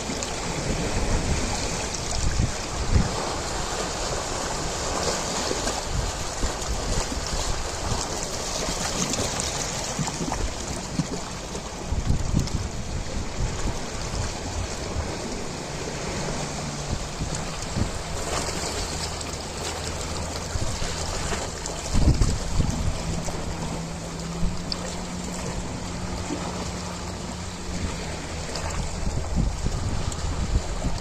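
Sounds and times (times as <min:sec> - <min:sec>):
ocean waves washing: 0:00.0 - 0:31.0.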